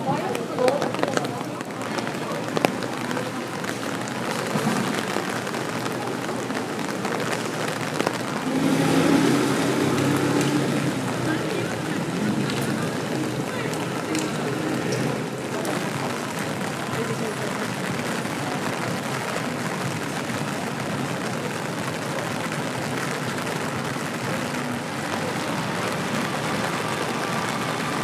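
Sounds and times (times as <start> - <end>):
murmur of voices: 0.0 - 28.0
rain falling hiss: 0.0 - 28.0.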